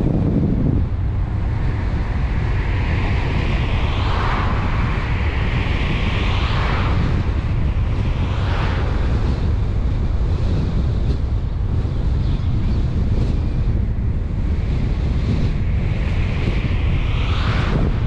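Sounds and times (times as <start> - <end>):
car road noise rumble: 0.0 - 18.0
wind noise hiss: 0.0 - 18.0.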